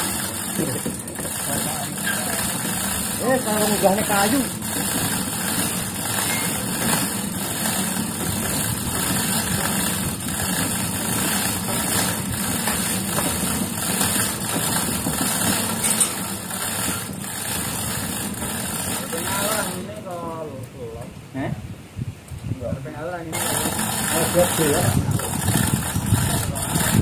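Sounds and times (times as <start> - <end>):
engine idling: 0.0 - 20.1, 23.4 - 27.0.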